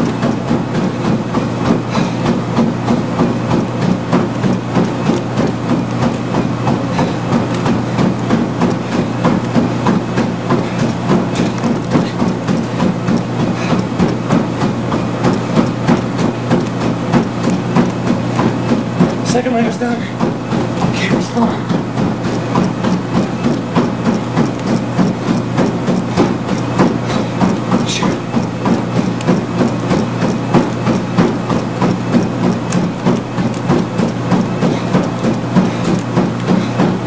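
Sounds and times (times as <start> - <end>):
running footfalls on treadmill: 0.0 - 37.0
treadmill motor humming: 0.0 - 37.0.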